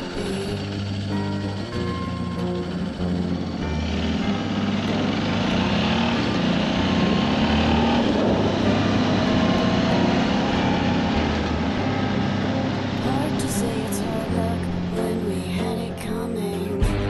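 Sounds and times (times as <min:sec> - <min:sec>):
motorbike engine: 0:00.0 - 0:17.0.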